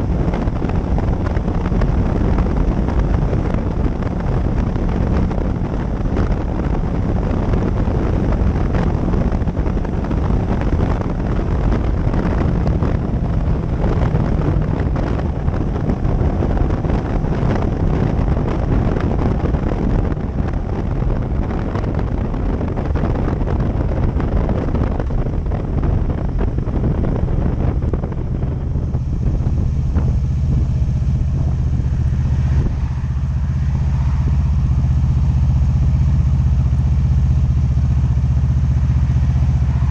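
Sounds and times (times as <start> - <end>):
motorcycle engine: 0.0 - 39.9
road noise: 0.0 - 39.9
wind rushing over microphone: 0.0 - 39.9.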